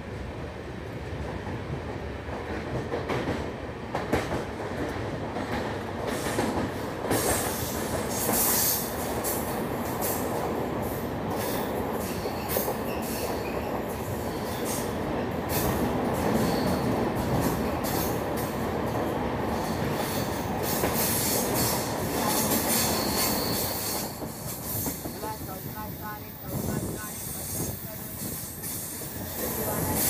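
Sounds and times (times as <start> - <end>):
train wheels roaring on rail: 0.0 - 30.0.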